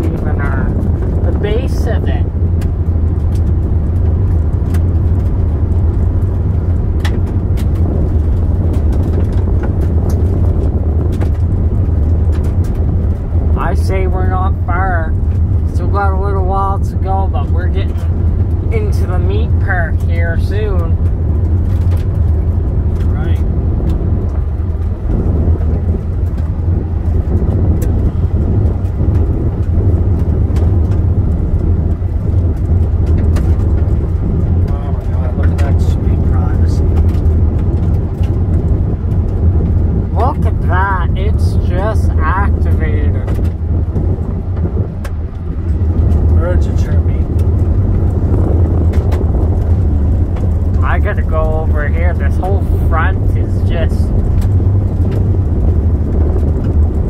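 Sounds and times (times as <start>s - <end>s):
car driving on gravel: 0.0s - 57.0s.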